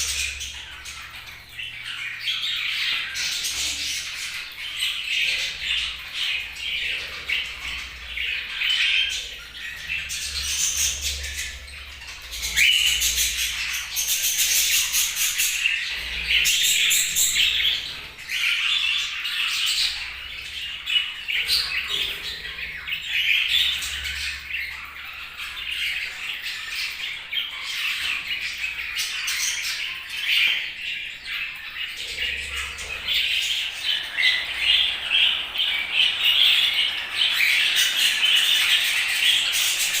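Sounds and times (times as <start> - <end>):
budgerigars chattering: 0.0 - 40.0.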